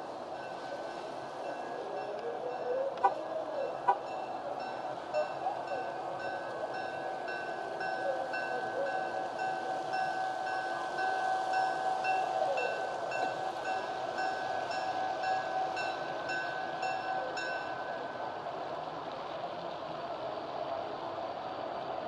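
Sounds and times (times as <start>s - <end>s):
train rumble: 0.0s - 22.0s
railroad bell ringing: 0.3s - 18.4s.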